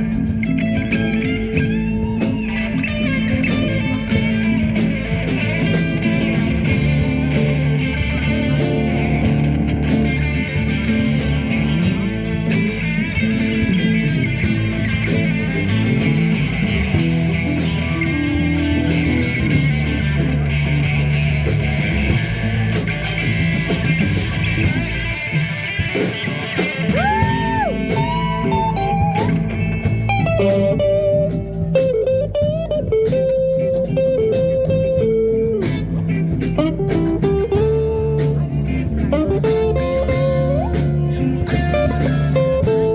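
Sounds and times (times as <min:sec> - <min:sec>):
blues band playing: 0:00.0 - 0:42.9
electric guitar bending long notes: 0:00.0 - 0:42.9.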